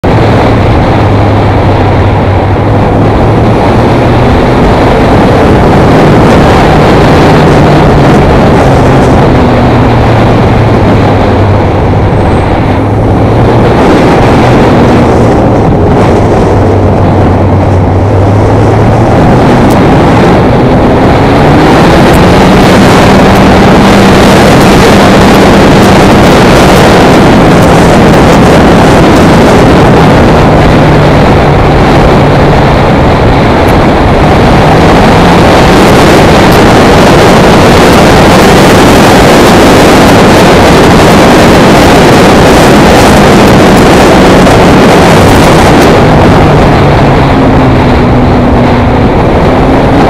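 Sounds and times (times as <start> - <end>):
motorcycle engine revving: 0.0 - 50.0
wind noise on microphone: 0.0 - 50.0.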